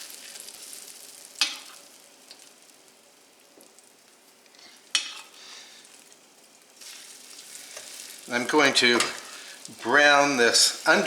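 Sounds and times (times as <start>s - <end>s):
chicken sizzling in hot fat: 0.0s - 11.0s.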